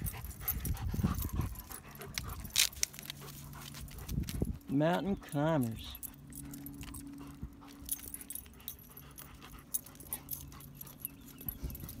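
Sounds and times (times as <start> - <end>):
collar tags jingling: 0.0 - 12.0
dogs panting: 0.0 - 12.0.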